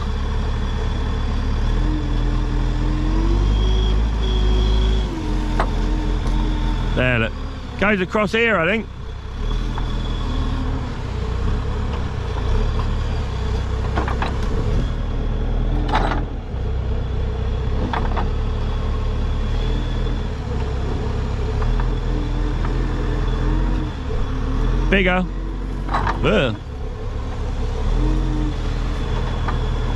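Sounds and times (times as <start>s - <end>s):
digging machine diesel engine: 0.0s - 29.9s.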